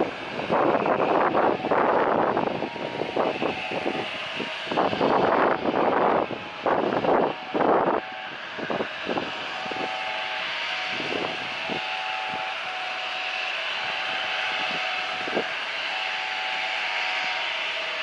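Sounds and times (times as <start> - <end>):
jet engines whining: 0.0 - 18.0
loud rushing noise: 0.0 - 18.0.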